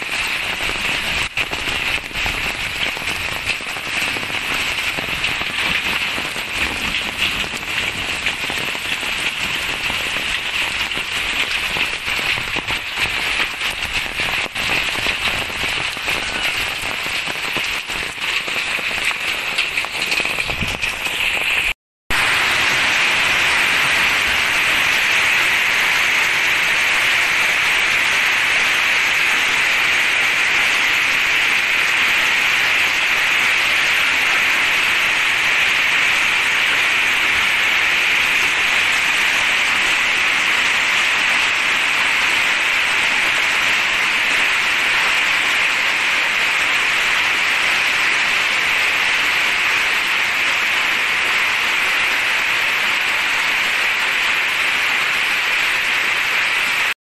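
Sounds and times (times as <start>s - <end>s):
rain and hail on metal roof: 0.0s - 57.0s.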